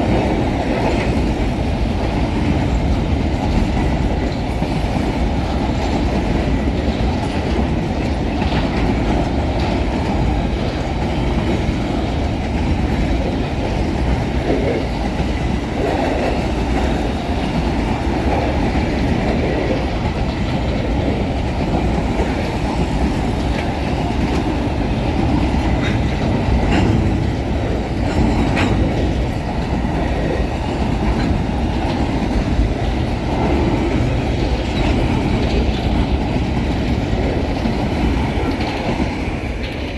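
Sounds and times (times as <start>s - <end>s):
steel wheels rumbling on rail: 0.0s - 39.9s
wheel clicks over rail joints: 0.1s - 39.9s.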